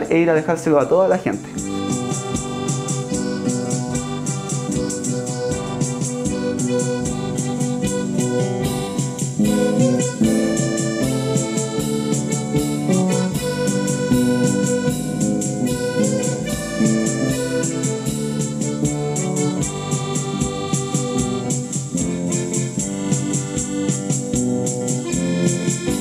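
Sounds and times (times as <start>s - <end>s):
organ-like keyboard music: 0.0s - 26.0s.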